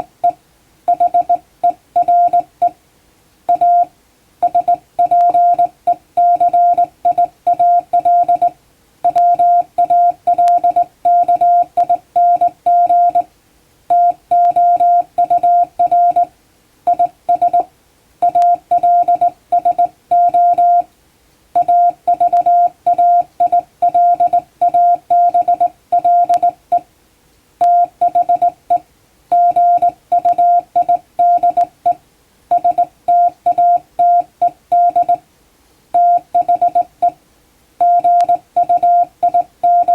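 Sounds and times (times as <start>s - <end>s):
morse code beeps: 0.2s - 2.7s, 3.5s - 8.5s, 9.1s - 13.3s, 13.9s - 16.3s, 16.9s - 20.9s, 21.6s - 26.8s, 27.6s - 35.2s, 36.0s - 37.2s, 37.8s - 39.9s.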